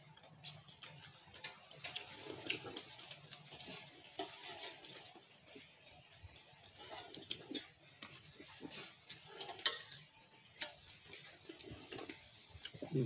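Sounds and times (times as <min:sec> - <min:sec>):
chewing: 0:00.0 - 0:13.0
people eating with their hands: 0:00.0 - 0:13.0.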